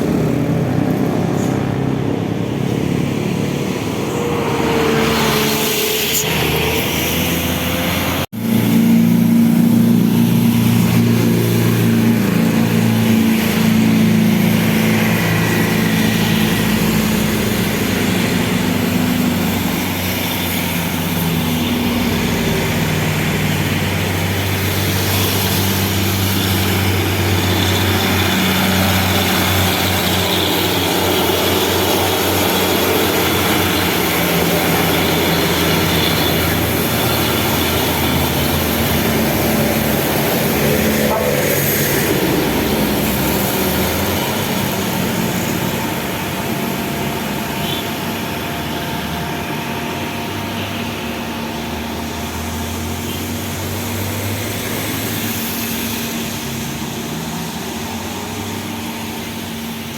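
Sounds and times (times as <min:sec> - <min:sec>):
buses driving past: 0:00.0 - 0:59.9.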